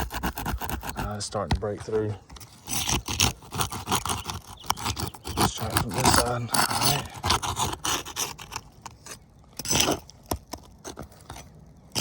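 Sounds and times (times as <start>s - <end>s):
shingle scraping and crackling: 0.0s - 12.0s.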